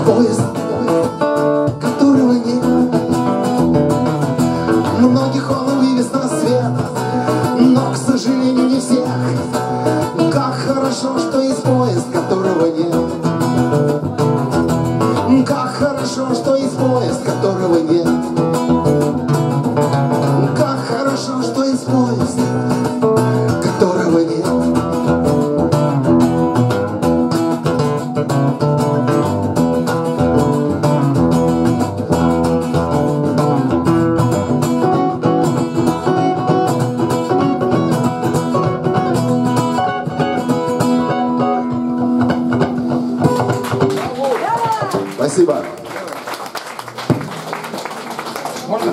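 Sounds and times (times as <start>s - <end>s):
acoustic guitars playing: 0.0s - 45.8s.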